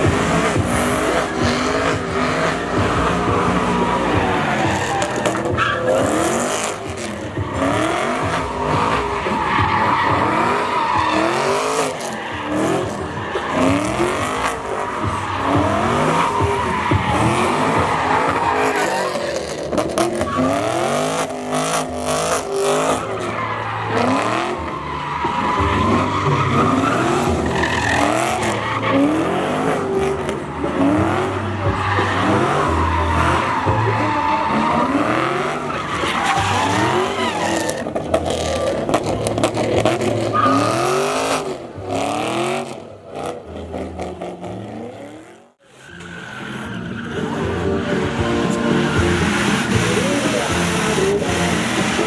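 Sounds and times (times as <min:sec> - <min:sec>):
tyre squeal: 0:00.0 - 0:42.3
car engines revving: 0:00.0 - 0:52.0.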